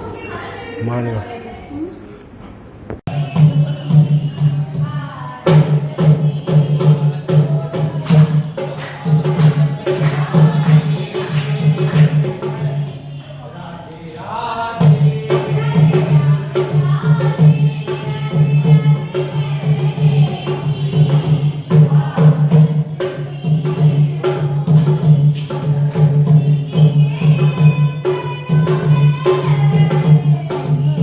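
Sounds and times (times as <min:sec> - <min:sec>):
rhythmic percussion: 0:00.0 - 0:31.0
devotional singing: 0:03.1 - 0:31.0.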